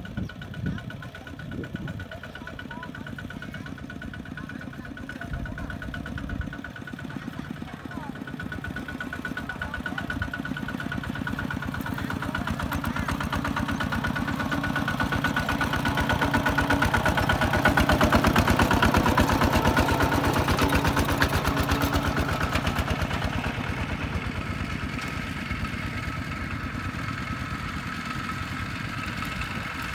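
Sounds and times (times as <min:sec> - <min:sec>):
tractor diesel engine passing: 0:00.0 - 0:29.9.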